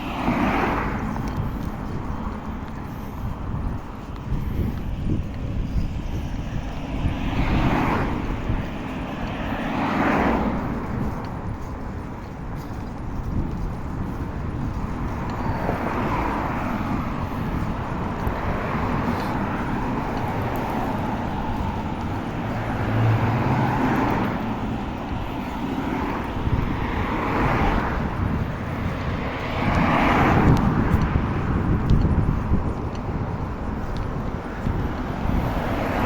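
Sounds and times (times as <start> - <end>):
cars passing by: 0.0 - 36.0.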